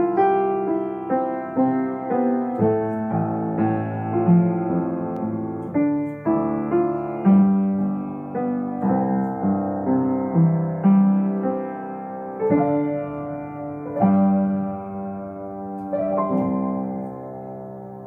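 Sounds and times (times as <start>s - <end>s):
slow gentle piano tune: 0.0s - 18.0s.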